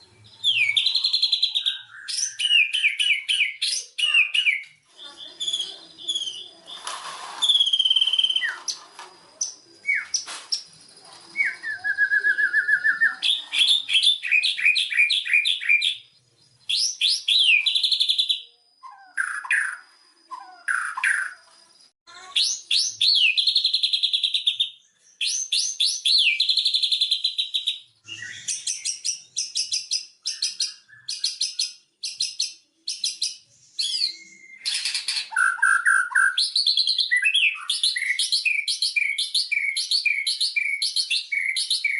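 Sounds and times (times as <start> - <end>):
bird singing varied song: 0.0 - 41.9.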